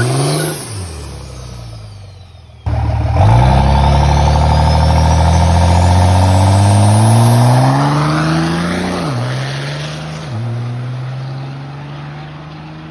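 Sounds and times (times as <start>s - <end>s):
pickup truck accelerating: 0.0s - 12.9s.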